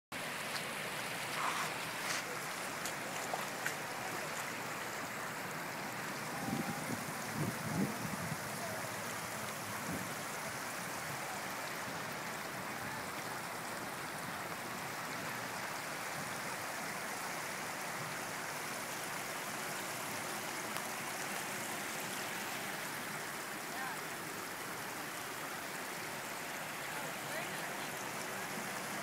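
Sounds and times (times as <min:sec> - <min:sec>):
floodwater rushing: 0:00.1 - 0:29.0.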